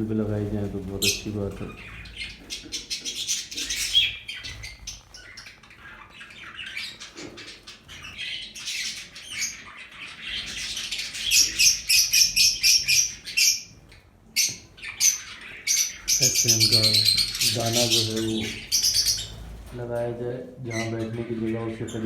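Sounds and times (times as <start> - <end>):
lovebirds chirping and squawking: 0.0 - 22.0.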